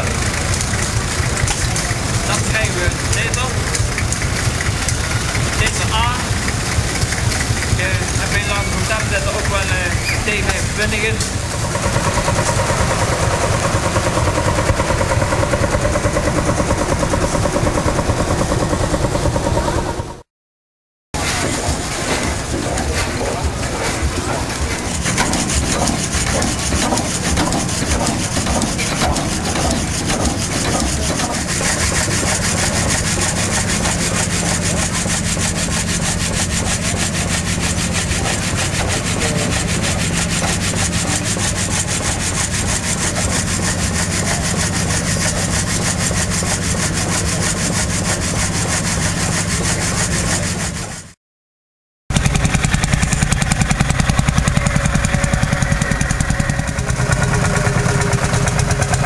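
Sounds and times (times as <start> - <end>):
old tractor engine running: 0.0 - 20.2, 21.2 - 51.2, 52.1 - 59.0
stationary engine running: 0.0 - 20.3, 21.2 - 51.2, 52.1 - 59.0.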